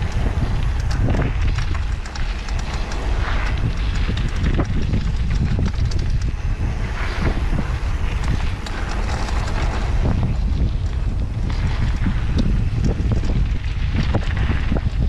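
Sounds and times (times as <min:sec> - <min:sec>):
bike clicks and rattles: 0:00.0 - 0:15.0
bike tyre noise: 0:00.0 - 0:15.0
wind buffeting microphone: 0:00.0 - 0:15.0.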